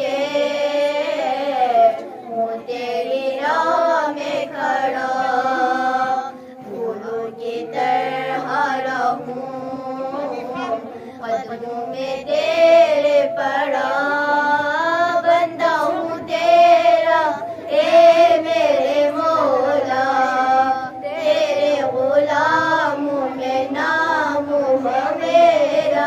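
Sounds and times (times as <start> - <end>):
girls singing together: 0.0 - 26.0.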